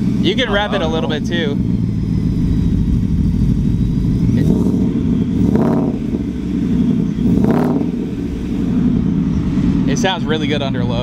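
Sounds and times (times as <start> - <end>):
truck engine idling and revving: 0.0 - 11.0.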